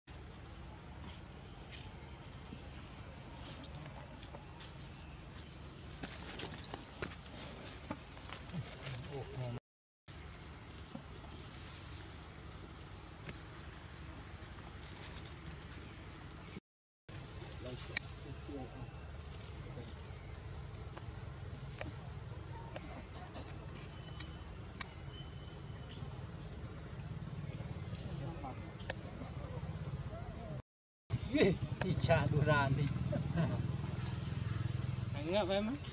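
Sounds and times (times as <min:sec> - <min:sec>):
insects trilling: 0:00.1 - 0:35.9.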